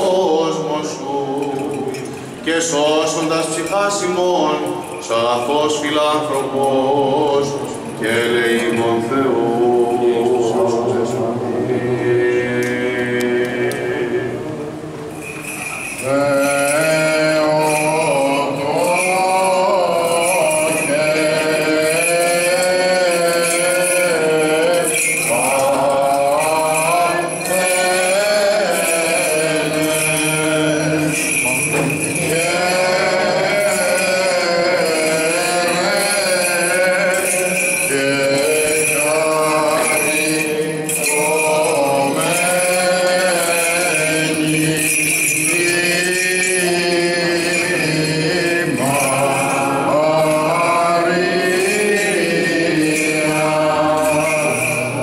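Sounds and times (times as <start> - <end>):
censer bells jingling: 0.0 - 11.2, 14.8 - 55.0
low sung drone: 0.0 - 55.0
melismatic chant: 0.0 - 55.0.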